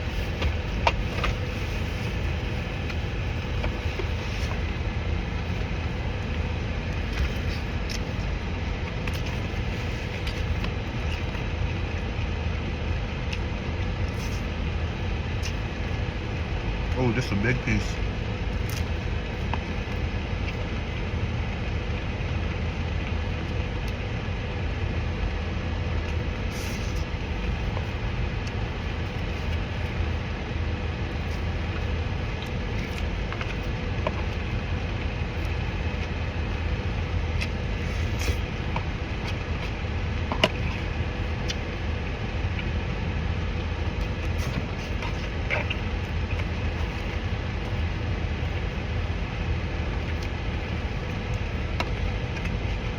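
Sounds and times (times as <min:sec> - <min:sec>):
low engine-like rumble: 0:00.0 - 0:52.9
thin constant hum: 0:00.0 - 0:52.9.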